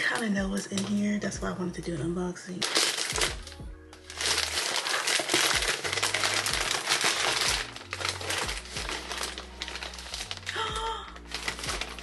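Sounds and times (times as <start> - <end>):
plastic bags crinkling: 0.0 - 1.1, 2.6 - 12.0.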